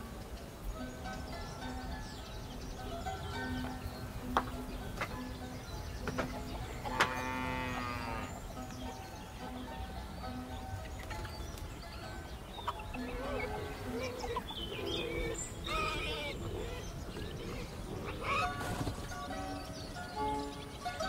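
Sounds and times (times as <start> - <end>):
bird-like chirps: 0.0 - 21.0
music with held notes: 0.0 - 21.0.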